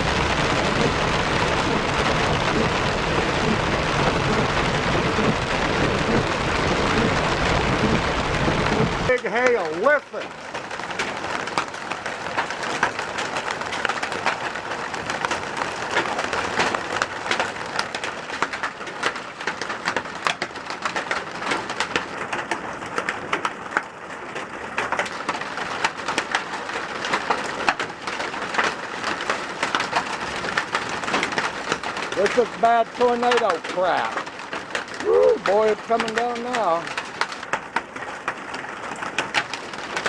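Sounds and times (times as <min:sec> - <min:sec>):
hailstones clattering: 0:00.0 - 0:40.0.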